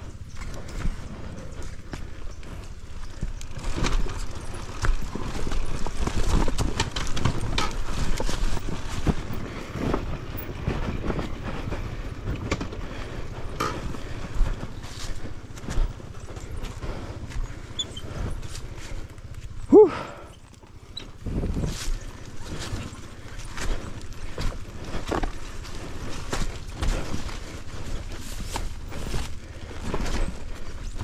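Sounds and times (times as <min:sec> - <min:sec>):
bike knocking and rattling: 0:00.0 - 0:31.0.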